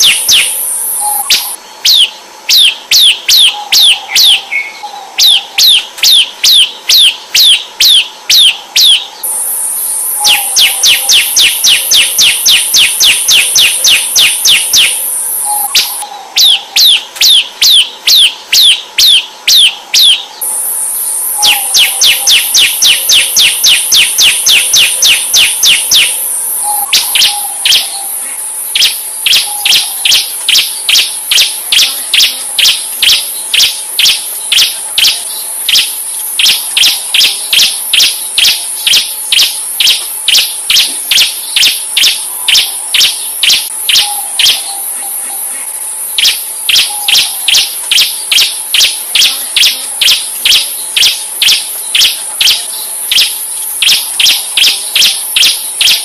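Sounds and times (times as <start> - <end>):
bird calling sharp repeated notes: 0.0 - 56.0
steady high-pitched shrill: 0.0 - 56.0.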